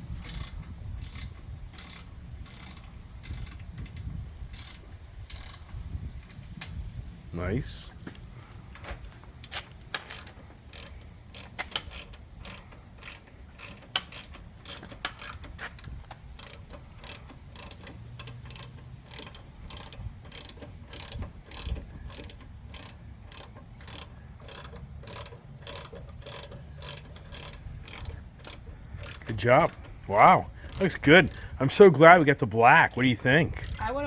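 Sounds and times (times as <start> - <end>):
socket ratchet clicking: 0.2 - 6.4, 9.4 - 33.9.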